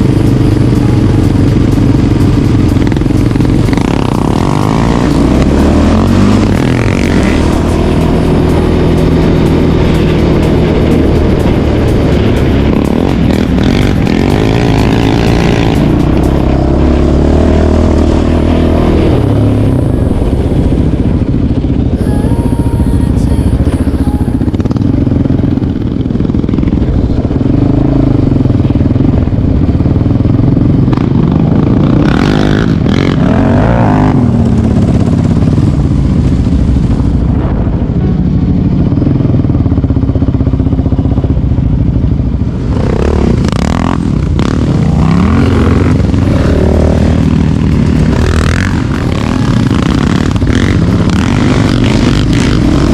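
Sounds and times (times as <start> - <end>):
quad bike engine running: 0.0 - 52.9.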